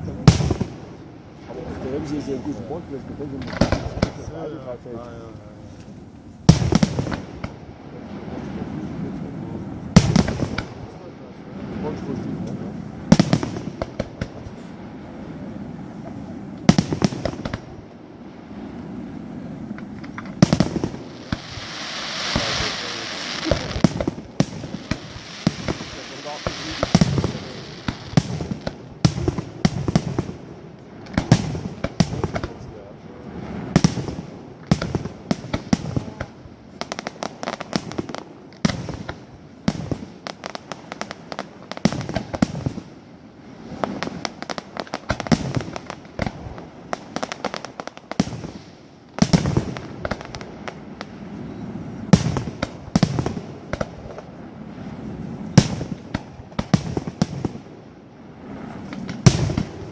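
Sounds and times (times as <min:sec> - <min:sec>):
fireworks bursting with sharp bangs: 0:00.0 - 0:04.9, 0:05.7 - 0:59.9.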